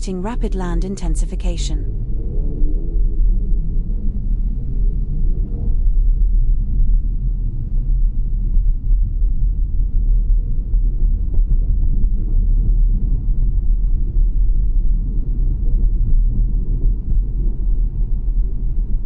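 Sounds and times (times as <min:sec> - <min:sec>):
loud low rumble: 0:00.0 - 0:19.0.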